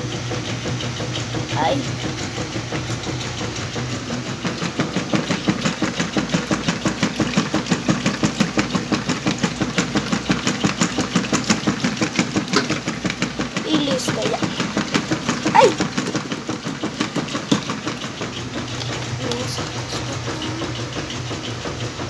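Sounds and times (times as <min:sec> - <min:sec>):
washing machine agitating: 0:00.0 - 0:22.0.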